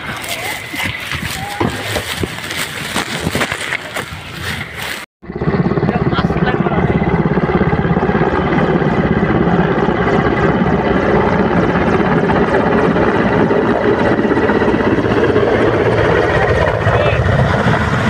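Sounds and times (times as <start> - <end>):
helicopter rotor beating: 0.0 - 18.0.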